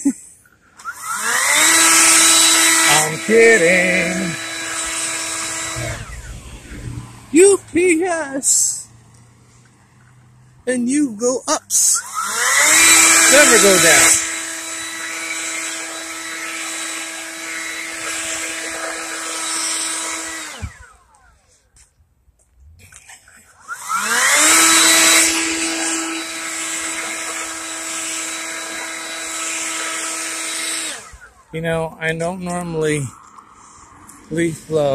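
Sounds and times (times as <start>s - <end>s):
leaf blower whine: 0.0s - 21.9s, 22.9s - 34.9s.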